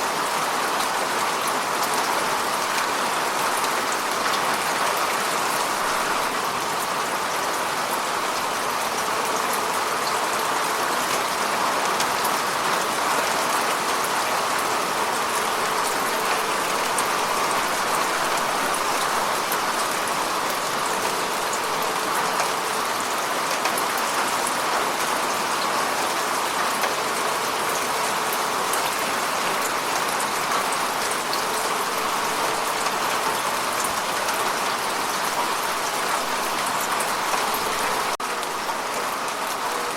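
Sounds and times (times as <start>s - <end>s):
heavy rain falling: 0.0s - 39.9s
raindrops pattering on surfaces: 0.0s - 39.9s.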